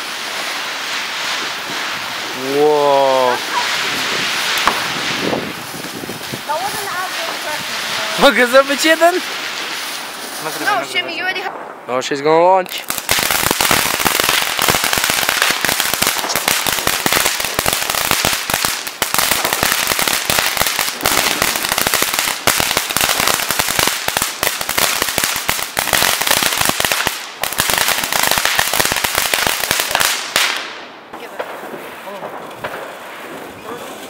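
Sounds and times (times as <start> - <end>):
firework fountain crackling: 0.0 - 34.0.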